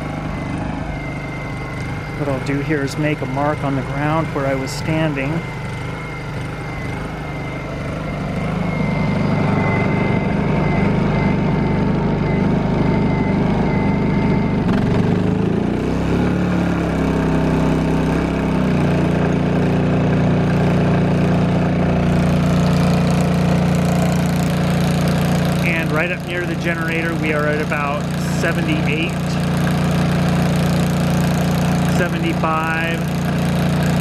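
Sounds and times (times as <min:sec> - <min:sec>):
generator engine running: 0:00.0 - 0:34.0
thin whine: 0:00.0 - 0:34.0.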